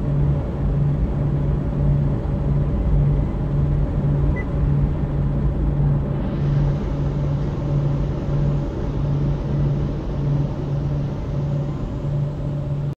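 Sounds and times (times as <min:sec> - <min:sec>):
low rumble inside car wash: 0:00.0 - 0:13.0
pulsing low hum: 0:00.0 - 0:13.0.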